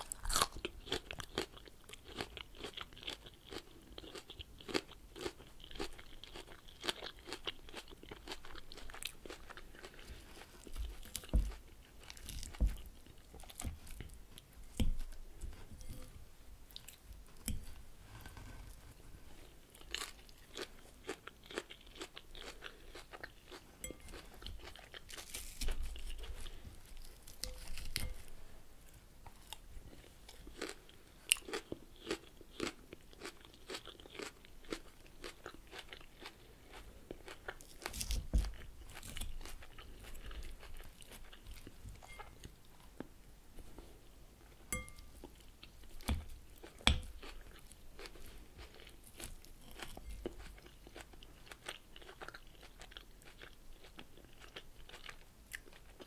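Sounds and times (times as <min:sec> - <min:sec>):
chewing crunchy salad: 0:00.0 - 0:18.8, 0:19.4 - 0:28.3, 0:29.3 - 0:43.1, 0:43.7 - 0:56.0.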